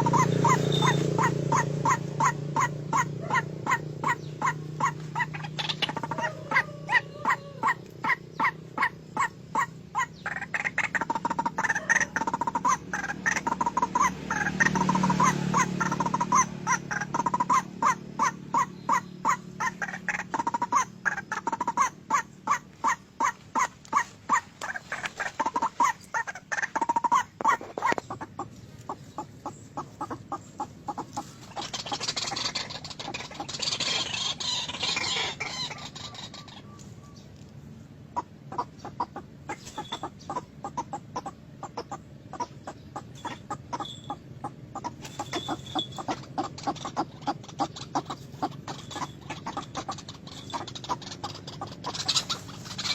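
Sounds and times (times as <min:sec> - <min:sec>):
waterhen croaking calls: 0:00.0 - 0:37.2, 0:38.1 - 0:52.9.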